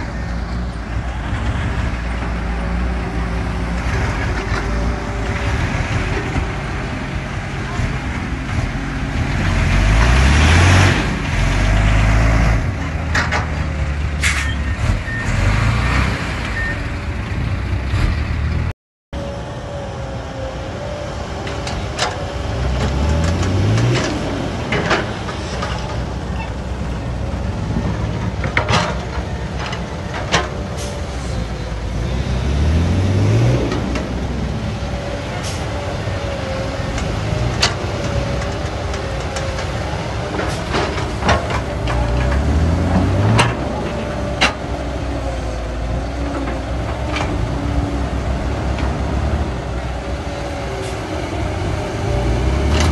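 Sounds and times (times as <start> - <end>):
diesel truck engine revving: 0.0 - 18.7, 20.6 - 52.9
excavator diesel engine: 0.0 - 52.9.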